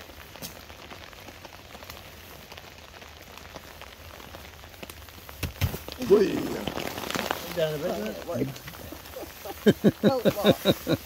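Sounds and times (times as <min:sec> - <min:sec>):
drops tapping on tarp: 0:00.0 - 0:11.0
steady rain: 0:00.0 - 0:11.0.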